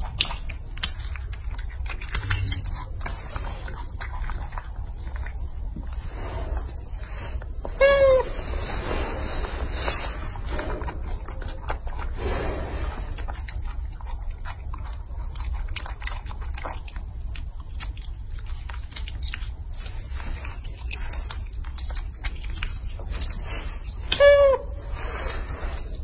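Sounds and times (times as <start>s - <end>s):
monkey chewing with mouth clicks: 0.0s - 26.0s
steady low hum: 0.0s - 26.0s.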